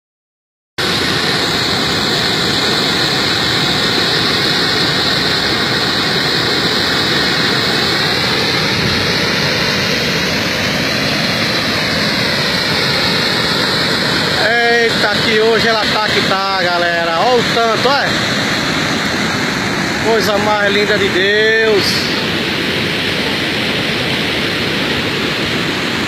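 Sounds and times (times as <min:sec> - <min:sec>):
water rushing over dam wall: 0:00.8 - 0:26.0.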